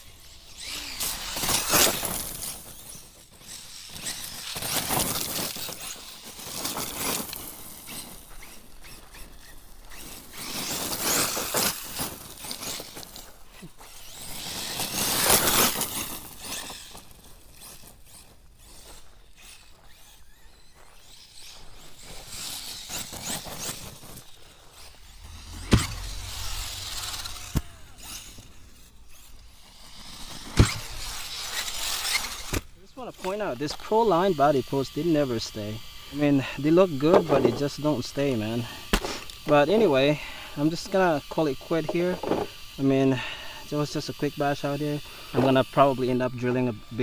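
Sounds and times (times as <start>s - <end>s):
rc truck driving over gravel: 0.0s - 47.0s.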